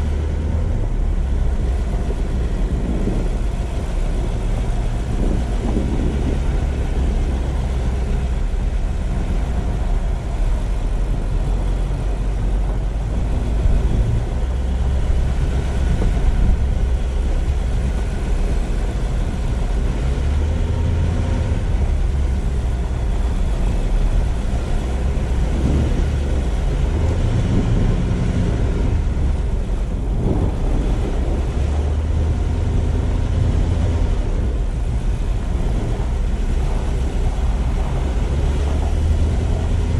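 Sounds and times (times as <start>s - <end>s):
car engine rumble: 0.0s - 39.9s
tyre road noise: 0.0s - 39.9s.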